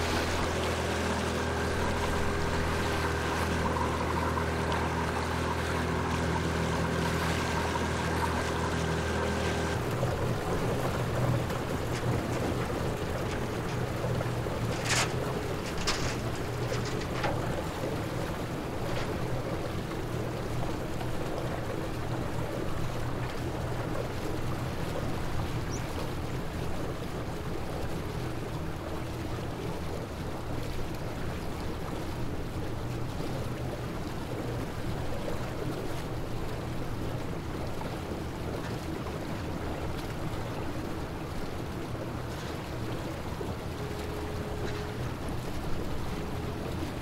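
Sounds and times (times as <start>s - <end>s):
outboard motor running: 0.0s - 47.0s.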